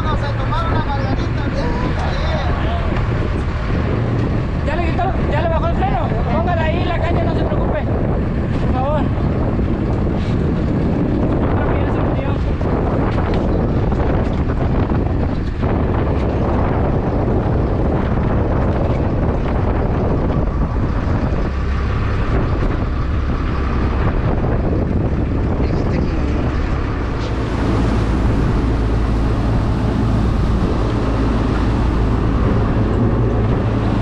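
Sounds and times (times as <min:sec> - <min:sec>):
boat engine running: 0:00.0 - 0:34.0
water noise: 0:00.0 - 0:34.0
wind noise: 0:00.0 - 0:34.0.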